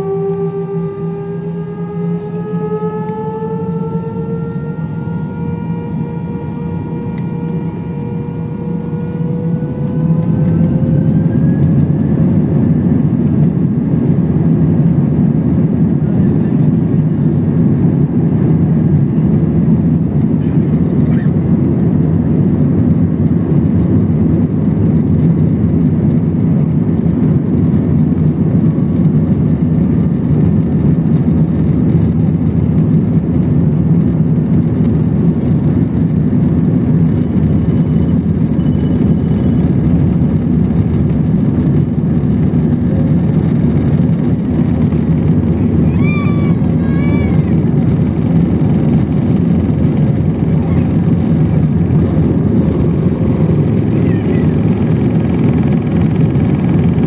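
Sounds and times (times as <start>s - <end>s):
jet engines and airflow in cabin: 0.0s - 57.0s.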